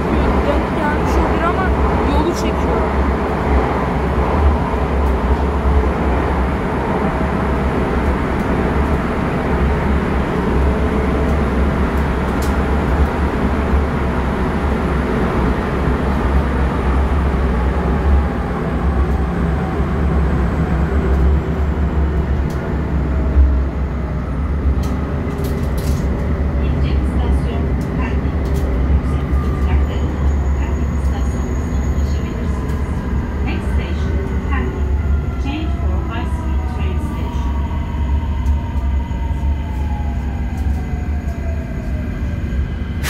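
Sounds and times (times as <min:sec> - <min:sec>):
train wheels and motors rumbling: 0:00.0 - 0:43.0.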